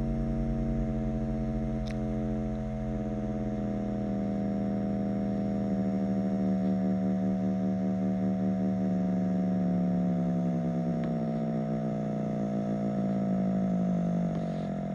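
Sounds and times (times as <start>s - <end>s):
fainter pulsing tones: 0.0s - 14.9s
low test tone: 0.0s - 14.9s.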